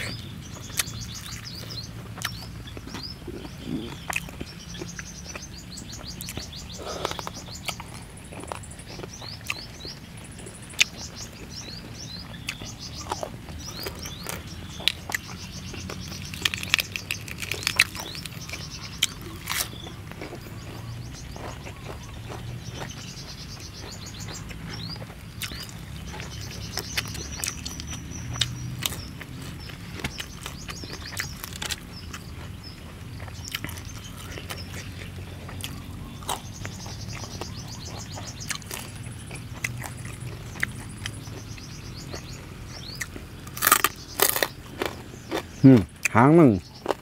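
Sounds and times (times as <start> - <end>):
birds chirping: 0.0 - 47.0
chewing crispy food: 0.0 - 47.0.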